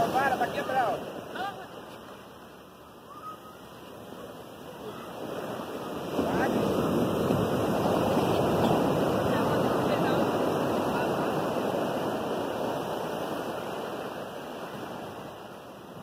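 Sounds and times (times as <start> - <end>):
sea surf washing up beach: 0.0 - 16.0.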